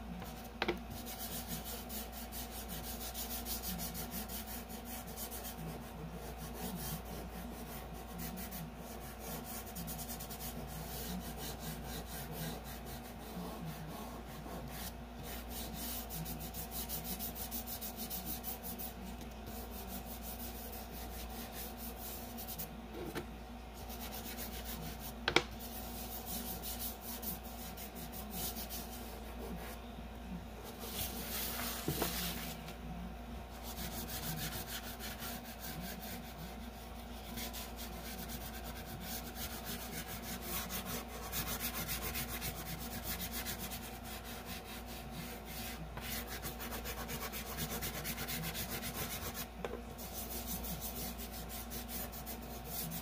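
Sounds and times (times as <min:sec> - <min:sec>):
hand rubbing pastel on paper: 0:00.0 - 0:23.2, 0:23.8 - 0:29.8, 0:30.6 - 0:32.7, 0:33.5 - 0:53.0.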